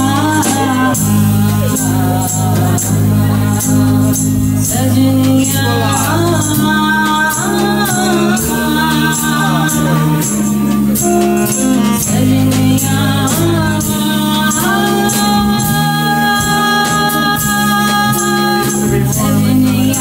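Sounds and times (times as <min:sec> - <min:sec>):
drums: 0:00.0 - 0:20.0
electric bass notes: 0:00.0 - 0:20.0
electric guitar: 0:00.0 - 0:20.0
tambourine shaking: 0:00.0 - 0:20.0
woman singing: 0:00.0 - 0:20.0.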